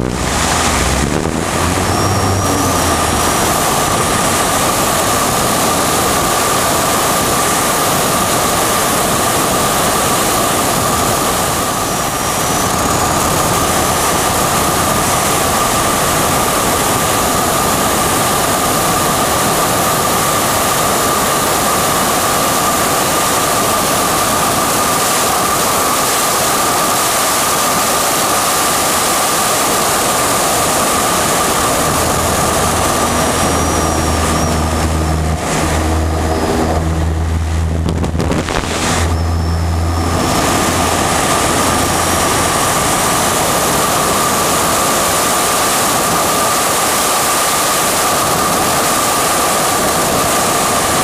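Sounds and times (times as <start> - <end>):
propeller plane engine droning: 0.0 - 51.0
wind rushing on microphone: 0.0 - 51.0.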